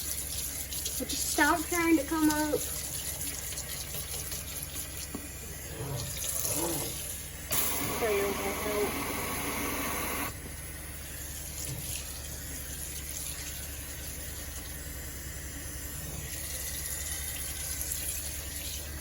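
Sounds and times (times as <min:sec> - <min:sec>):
faucet running into sink: 0:00.0 - 0:19.0.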